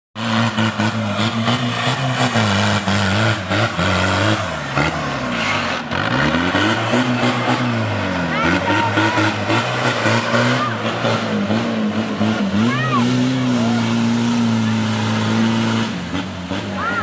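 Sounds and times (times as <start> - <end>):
off-road vehicle engine running hard: 0.2 - 17.0.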